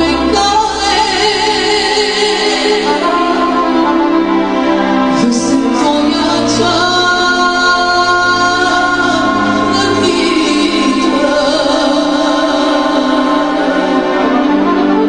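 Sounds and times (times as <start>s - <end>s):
woman singing into microphone: 0.0s - 4.0s, 5.1s - 14.9s
instrumental accompaniment: 0.0s - 15.0s.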